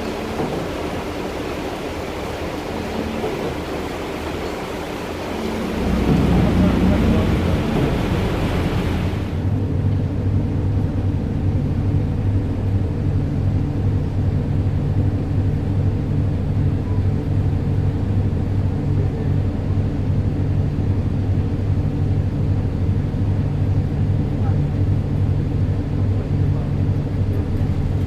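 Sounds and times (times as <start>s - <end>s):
ferry engine droning: 0.0s - 28.0s.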